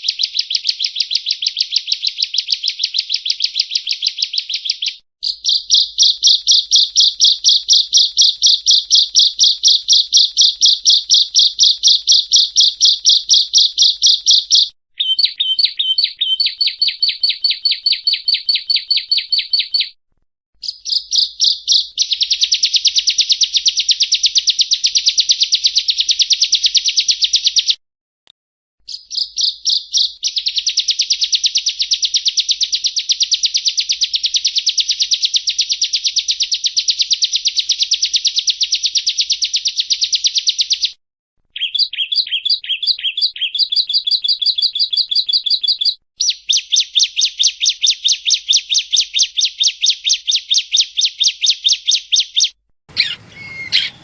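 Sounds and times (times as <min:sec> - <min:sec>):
bird chirping rapidly: 0:00.0 - 0:19.9, 0:20.6 - 0:27.7, 0:28.9 - 0:40.9, 0:41.6 - 0:54.0.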